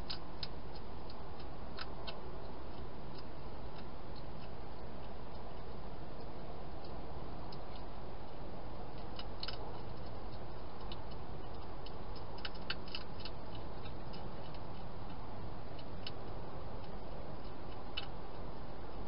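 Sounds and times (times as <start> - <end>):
hedgehog chewing clicks: 0.0 - 19.0.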